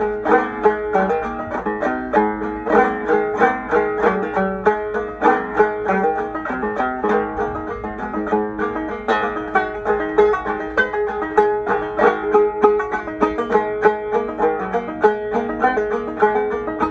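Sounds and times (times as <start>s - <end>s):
banjo playing a brisk tune: 0.0s - 16.9s.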